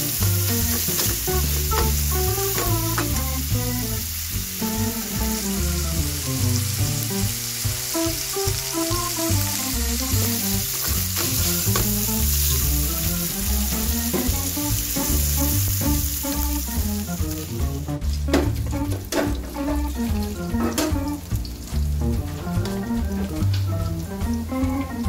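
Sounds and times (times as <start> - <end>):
background music: 0.0 - 25.0
food sizzling in oil: 0.0 - 25.0.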